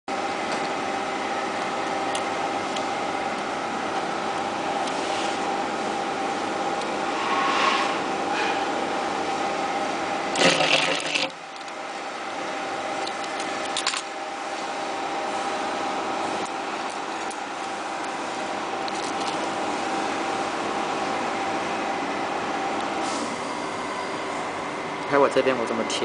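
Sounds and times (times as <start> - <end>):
machine humming: 0.1 - 26.0.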